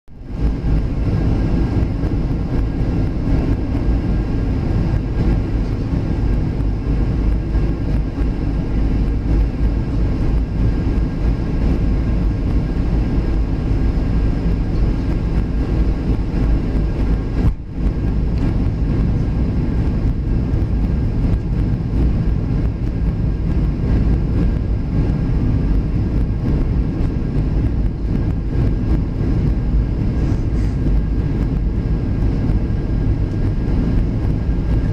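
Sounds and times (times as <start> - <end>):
deep rumble of airflow and engines: 0.0 - 34.9
faint steady whine tones: 0.1 - 34.9.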